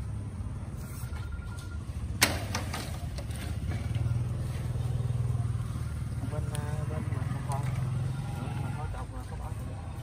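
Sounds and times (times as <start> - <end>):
motorcycle engine idling: 1.8 - 10.0.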